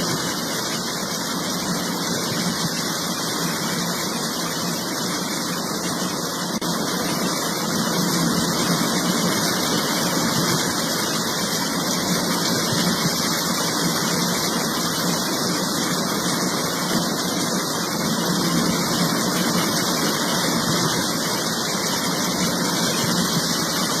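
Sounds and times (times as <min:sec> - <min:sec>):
floodwater pouring over waterfall: 0:00.0 - 0:24.0.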